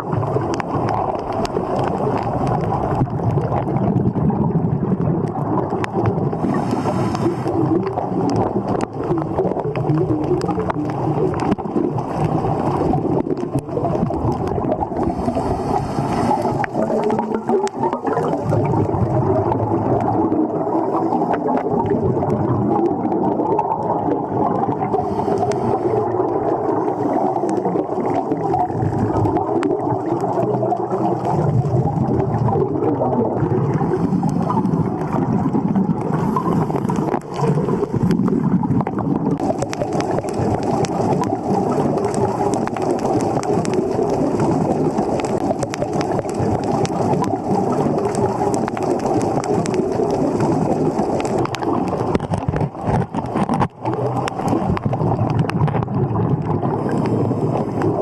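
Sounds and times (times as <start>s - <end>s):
scuba exhaust bubbles hissing: 0.0s - 58.0s
underwater rushing noise: 0.0s - 58.0s.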